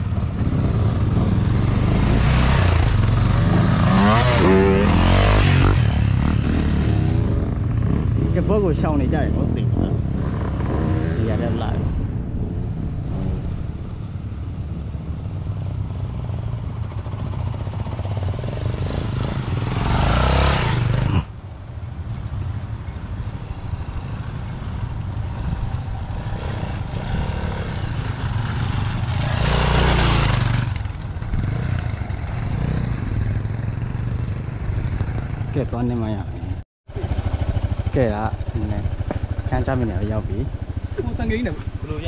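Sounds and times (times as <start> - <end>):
vehicle engine running off-road: 0.0 - 42.0.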